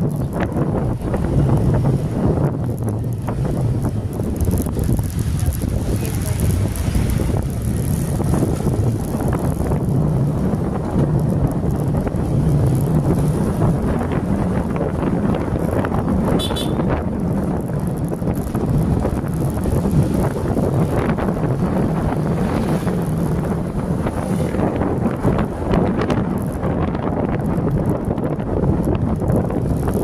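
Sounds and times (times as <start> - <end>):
two-wheeler rumbling on wet road: 0.0 - 30.0
wind buffeting microphone: 0.0 - 30.0.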